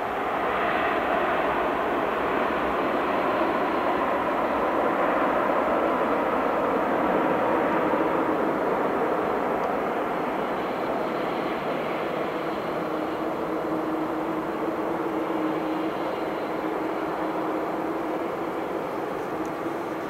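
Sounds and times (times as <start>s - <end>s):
jet engines taxiing: 0.0s - 20.0s.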